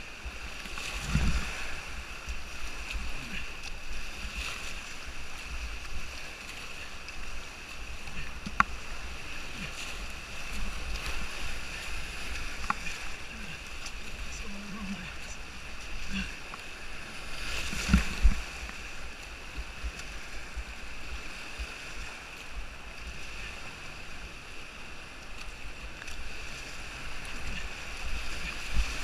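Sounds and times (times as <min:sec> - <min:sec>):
rushing whitewater: 0:00.0 - 0:29.0.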